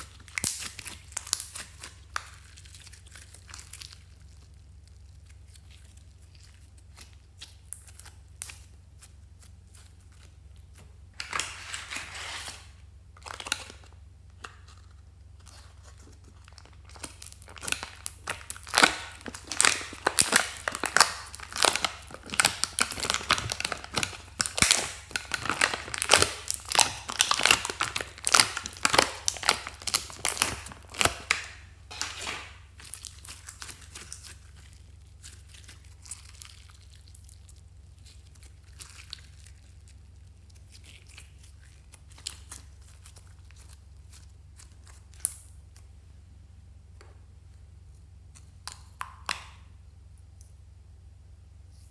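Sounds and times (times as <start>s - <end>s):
slime clicking and crackling: 0.0s - 11.5s, 15.3s - 45.9s, 48.3s - 49.7s.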